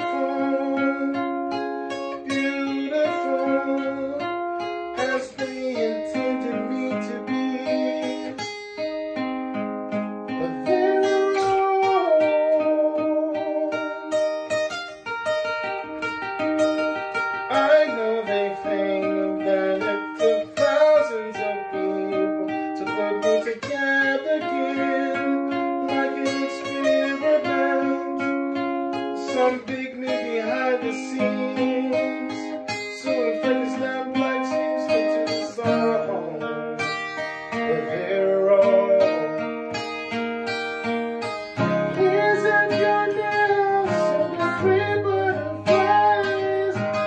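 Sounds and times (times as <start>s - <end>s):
acoustic guitar playing chords: 0.0s - 47.0s.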